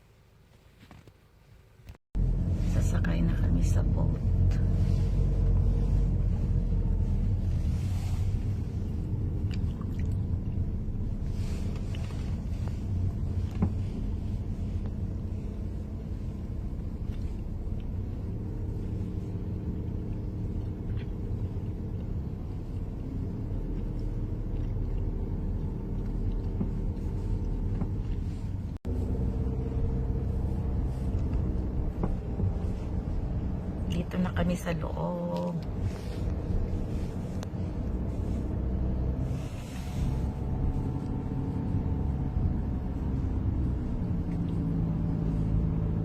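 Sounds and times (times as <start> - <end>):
vehicle engine rumble: 0.0 - 46.0.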